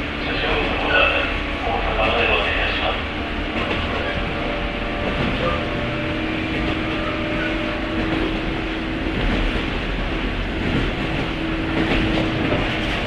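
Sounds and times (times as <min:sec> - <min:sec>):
train interior low rumble: 0:00.0 - 0:13.0.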